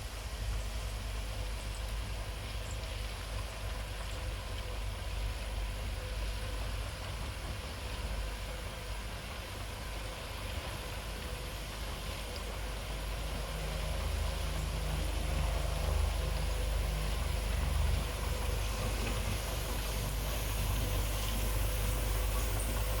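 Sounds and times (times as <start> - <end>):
diesel engine droning: 3.7 - 23.0.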